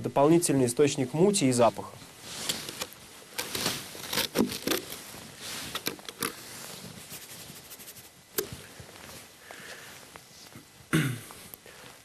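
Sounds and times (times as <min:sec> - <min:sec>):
faint rustling: 0:01.8 - 0:12.0.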